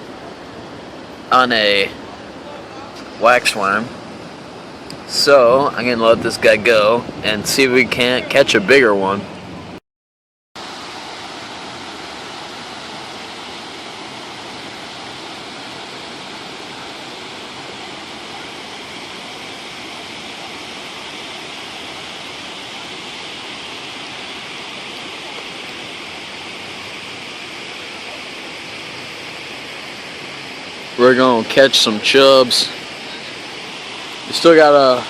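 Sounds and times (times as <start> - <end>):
river water rushing: 0.0 - 9.8, 10.6 - 35.0.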